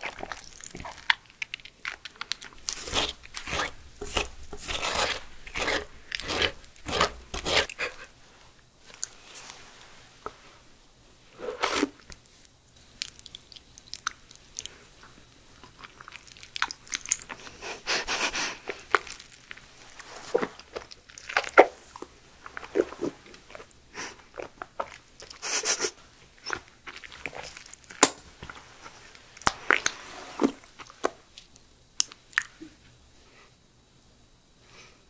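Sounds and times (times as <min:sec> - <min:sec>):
close-up chewing and sucking: 0:00.0 - 0:09.6, 0:11.3 - 0:32.6.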